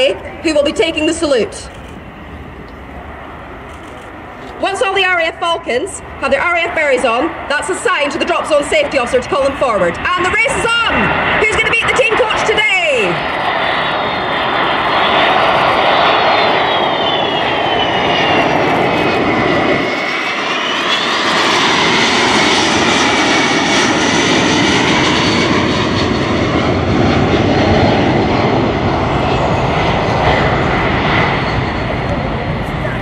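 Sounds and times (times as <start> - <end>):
high engine whine: 0.0 - 33.0
jet engine roar: 0.0 - 33.0.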